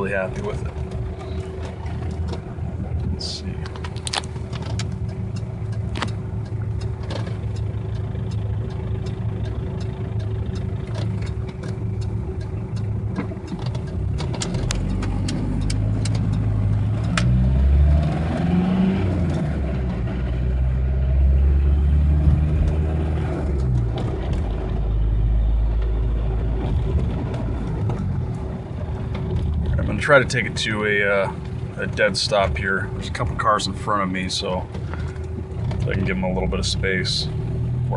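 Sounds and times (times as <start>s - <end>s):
diesel engine running: 0.0s - 37.9s
road noise: 0.0s - 37.9s.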